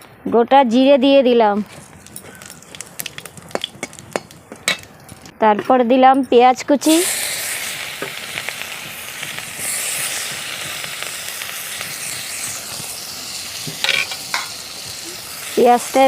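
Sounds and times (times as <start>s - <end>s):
onion sizzling in hot oil: 1.6s - 5.3s, 6.8s - 16.0s.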